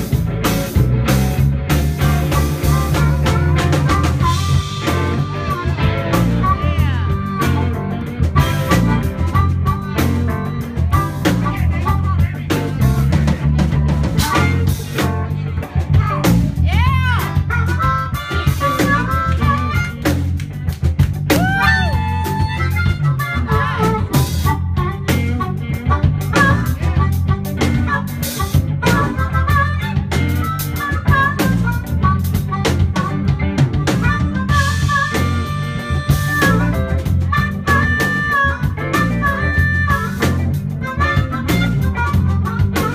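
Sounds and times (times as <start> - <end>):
amplified harmonica lead: 0.0 - 42.9
drums: 0.0 - 42.9
electric guitar: 0.0 - 42.9.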